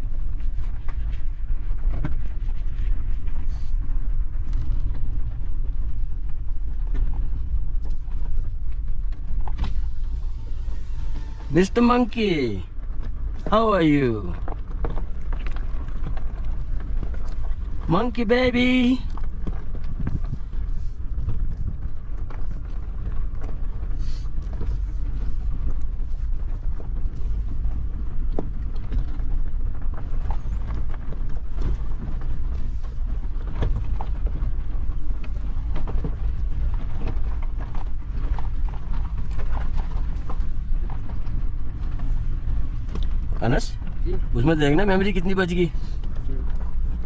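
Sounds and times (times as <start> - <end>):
engine and tyres rumbling: 0.0 - 47.0.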